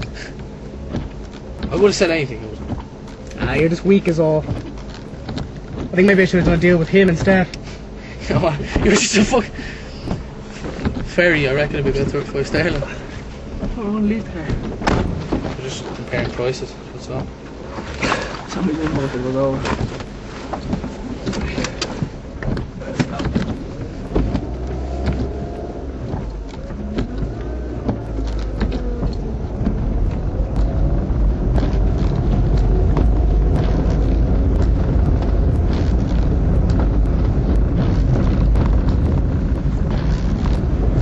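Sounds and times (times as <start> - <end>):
scattered clicks and knocks: 0.0 - 7.6, 8.2 - 13.8, 14.4 - 41.0
car engine rumble inside cabin: 0.0 - 41.0.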